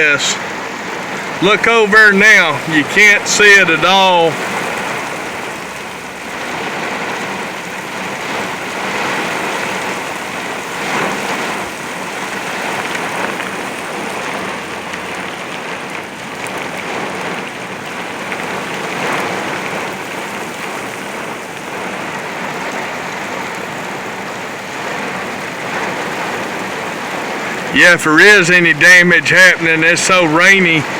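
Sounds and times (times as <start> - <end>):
heavy rain on vehicle roof: 0.0 - 30.9.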